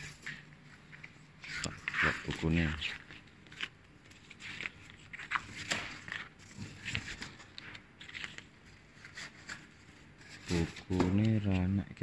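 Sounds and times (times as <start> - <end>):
paper pages rustling: 0.0 - 11.8.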